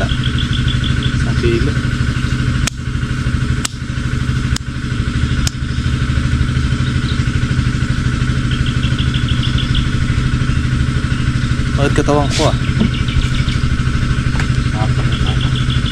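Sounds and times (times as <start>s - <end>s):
high chirps: 0.0s - 2.3s, 5.1s - 15.9s
engine pulsing drone: 0.0s - 15.9s.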